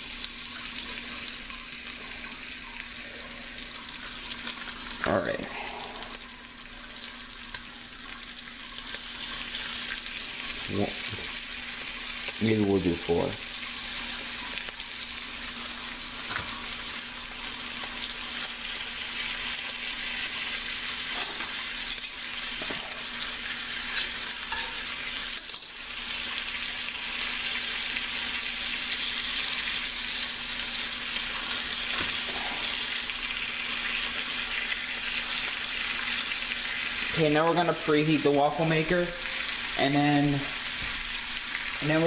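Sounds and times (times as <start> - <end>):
bacon sizzling in a skillet: 0.0 - 42.0.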